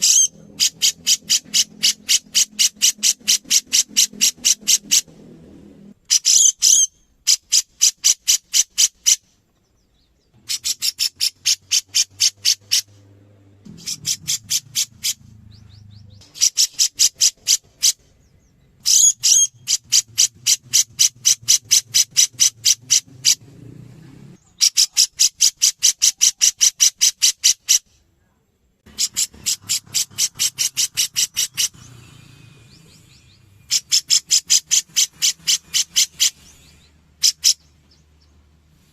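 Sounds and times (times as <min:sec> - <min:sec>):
bird calling high chips: 0:00.0 - 0:05.1, 0:06.0 - 0:09.4, 0:10.4 - 0:13.0, 0:13.7 - 0:18.2, 0:18.8 - 0:23.4, 0:24.4 - 0:28.0, 0:28.8 - 0:38.3.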